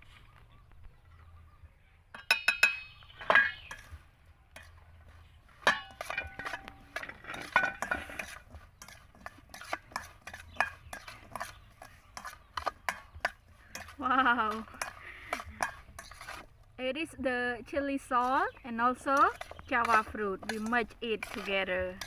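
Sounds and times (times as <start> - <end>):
utensil clinking against a dish: 2.1 - 16.5, 18.2 - 22.0.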